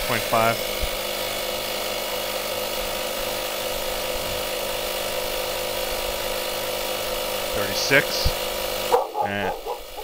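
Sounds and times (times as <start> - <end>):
air compressor running: 0.0 - 10.0.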